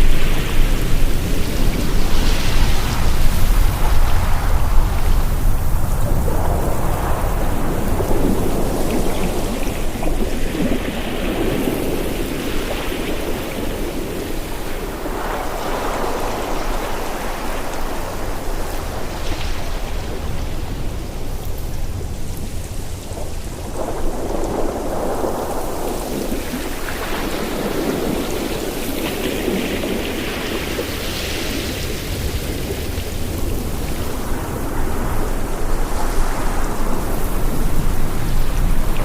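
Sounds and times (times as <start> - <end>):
ocean surf: 0.0 - 39.0
wind: 0.0 - 39.0.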